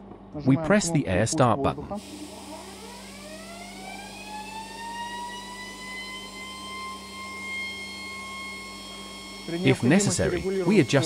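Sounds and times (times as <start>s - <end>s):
steady low hum: 0.0s - 11.0s
turbocharger rotor whine: 1.8s - 11.0s.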